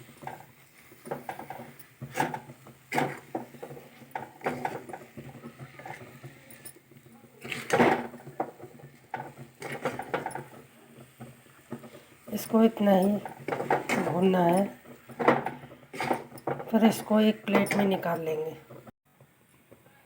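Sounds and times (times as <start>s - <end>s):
spatula scraping a pan: 0.0s - 18.9s.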